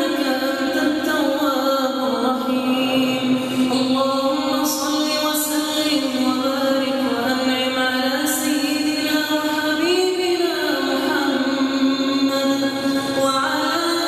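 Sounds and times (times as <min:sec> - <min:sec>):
person chanting a recitation: 0:00.0 - 0:14.0.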